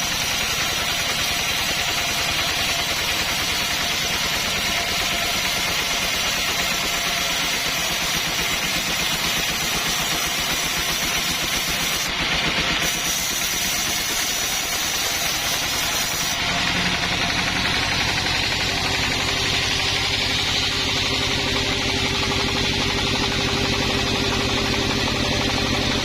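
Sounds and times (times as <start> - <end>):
chainsaw engine running: 0.0 - 26.0.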